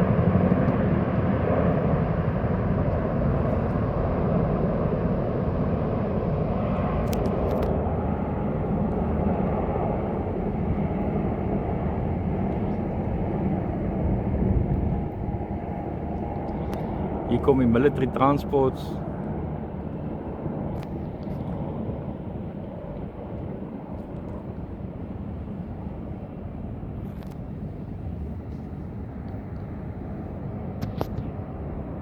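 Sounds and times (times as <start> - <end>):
helicopters flying past: 0.0 - 32.0.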